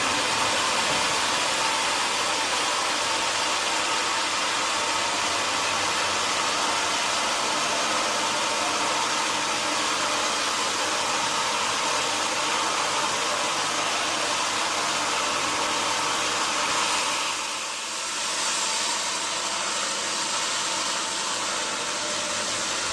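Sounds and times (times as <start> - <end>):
sawmill machinery running: 0.0 - 22.9.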